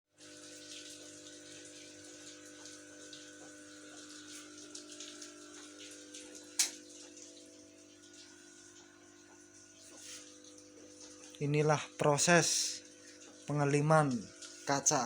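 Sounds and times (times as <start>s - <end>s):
faint trickling crackle: 0.2s - 15.0s.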